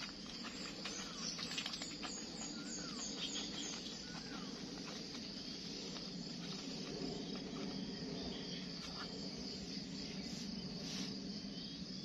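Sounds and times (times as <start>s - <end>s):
high insect trill: 0.0s - 12.0s
low steady background noise: 0.0s - 12.0s.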